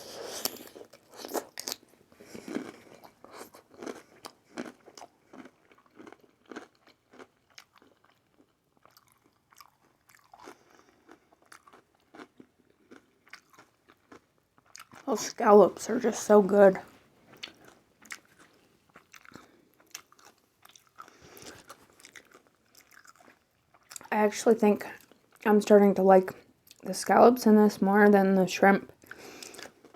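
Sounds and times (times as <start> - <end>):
person chewing and crunching food: 0.0 - 24.1, 24.9 - 25.4, 28.9 - 29.9.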